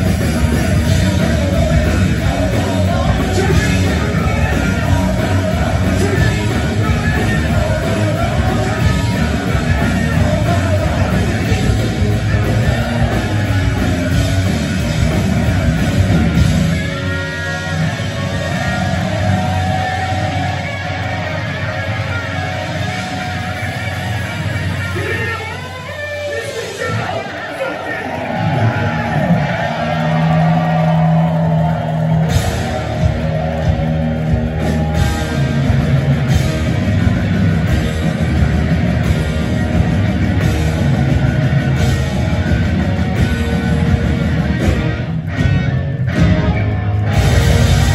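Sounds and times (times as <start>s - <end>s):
drum kit: 0.0s - 27.2s, 28.1s - 47.9s
electric guitar: 0.0s - 47.9s
hard rock band playing live: 0.0s - 47.9s.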